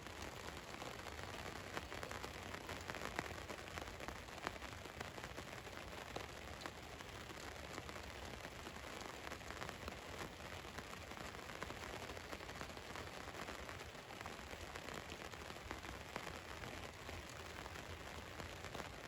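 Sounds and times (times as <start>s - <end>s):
rain on a metal roof: 0.0s - 19.0s.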